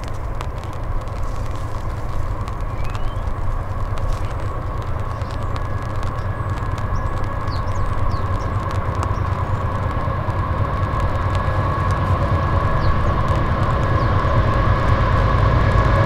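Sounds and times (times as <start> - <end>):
locomotive engine rumble: 0.0 - 16.0.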